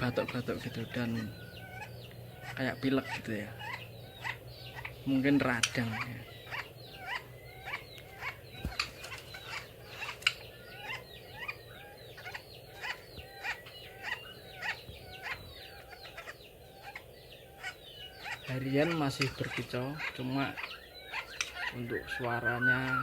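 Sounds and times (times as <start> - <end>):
bird chirping and clicking: 0.0 - 23.0.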